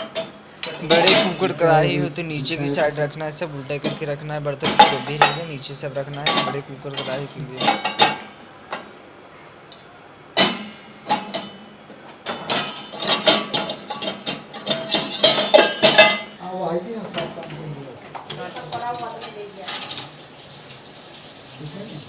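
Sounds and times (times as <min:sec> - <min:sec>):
metal pots and utensils clanking: 0:00.0 - 0:09.0, 0:10.3 - 0:20.2.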